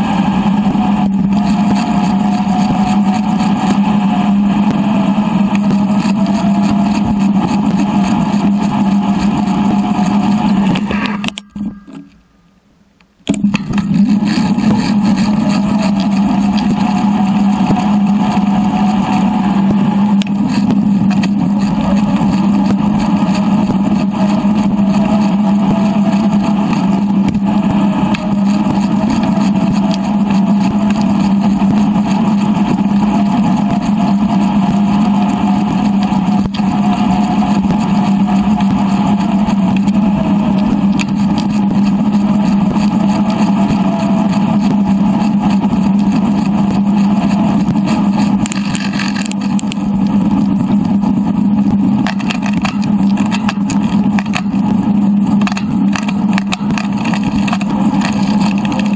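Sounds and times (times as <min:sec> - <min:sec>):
bicycle tyres on pavement: 0:00.0 - 0:58.9
wind drone: 0:00.0 - 0:58.9.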